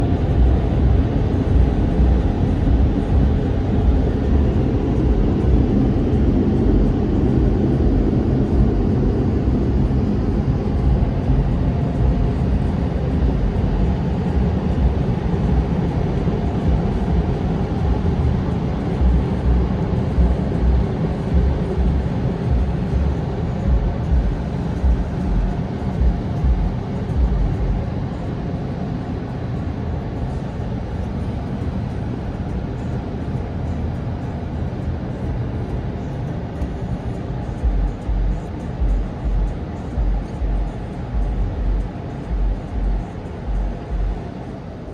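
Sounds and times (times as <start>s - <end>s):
car wash machinery rumbling: 0.0s - 44.9s.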